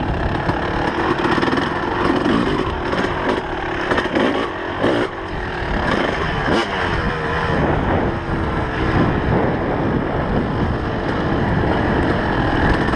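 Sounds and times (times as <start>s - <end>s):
dirt bike engine revving: 0.0s - 12.9s
wind noise on microphone: 0.0s - 12.9s.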